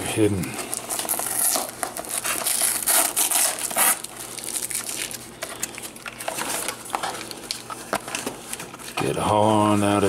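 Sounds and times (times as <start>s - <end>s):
cardboard and tape crinkling: 0.0s - 10.0s.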